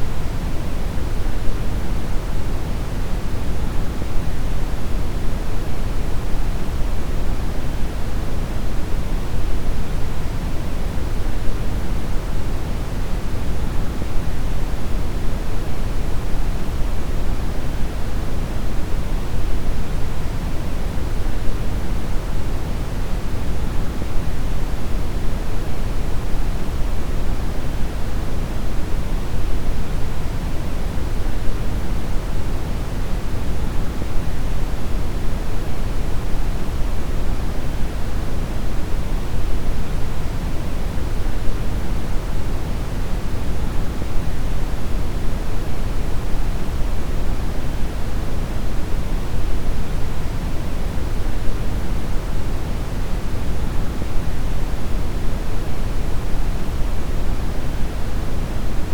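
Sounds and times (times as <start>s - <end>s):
brown noise rumbling hiss: 0.0s - 58.9s.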